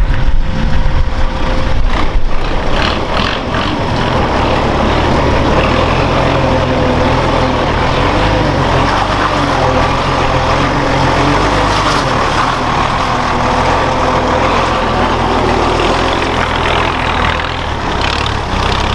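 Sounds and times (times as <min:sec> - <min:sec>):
heavy truck engine running: 0:00.0 - 0:18.9.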